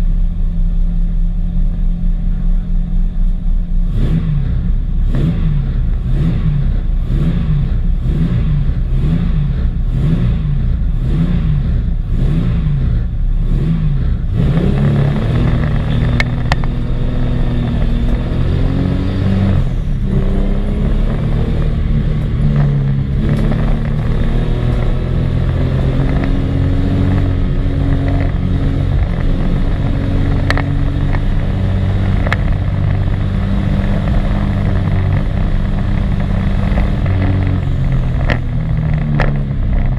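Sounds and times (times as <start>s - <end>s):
race car engine revving: 3.6s - 39.9s.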